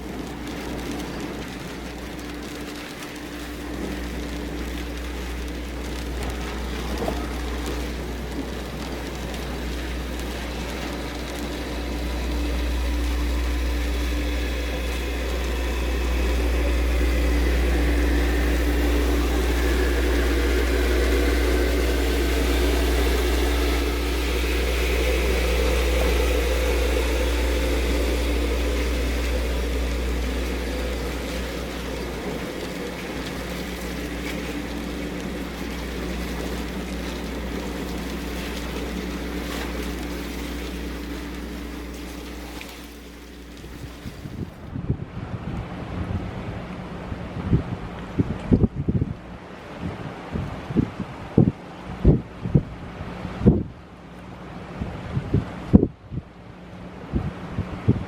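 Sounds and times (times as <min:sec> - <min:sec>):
wind buffeting microphone: 0:00.0 - 0:53.8, 0:54.7 - 0:56.3
boat engine hum: 0:00.0 - 0:58.0
choppy water washing: 0:00.0 - 0:58.0.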